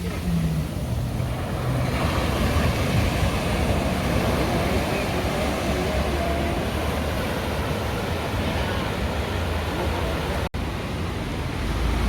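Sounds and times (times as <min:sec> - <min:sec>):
sea waves washing: 0:00.0 - 0:12.0.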